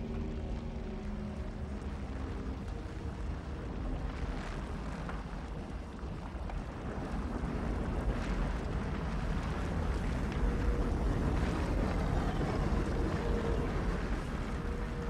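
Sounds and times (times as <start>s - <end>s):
volcanic eruption rumble: 1.0s - 15.0s.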